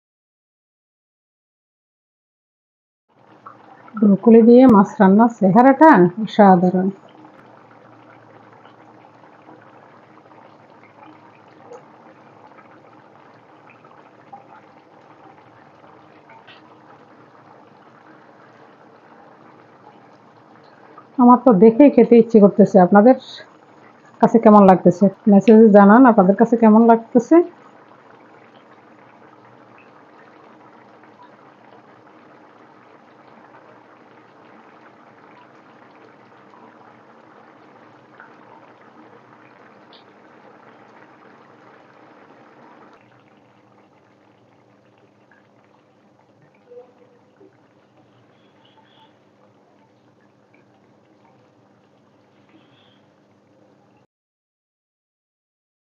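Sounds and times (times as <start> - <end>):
curry bubbling in a frying pan: 3.1 - 54.0.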